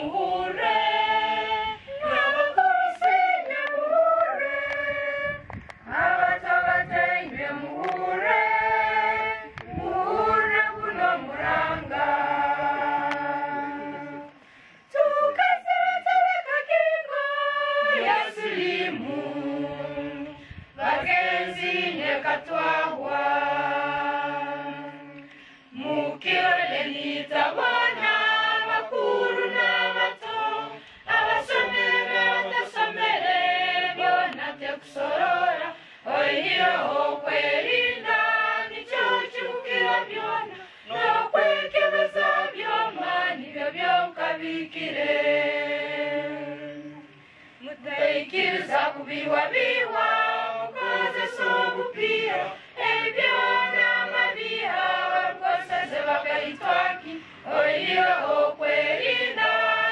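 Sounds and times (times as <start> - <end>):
group singing without instruments: 0.0 - 59.9.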